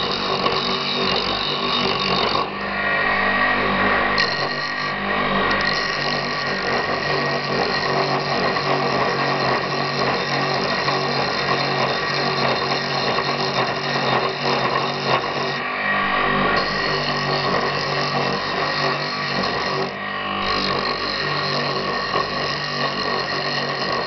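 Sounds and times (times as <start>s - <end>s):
axe blade scraping spinning wood: 0.0s - 2.6s, 3.9s - 24.0s
wood lathe motor running: 0.0s - 24.0s.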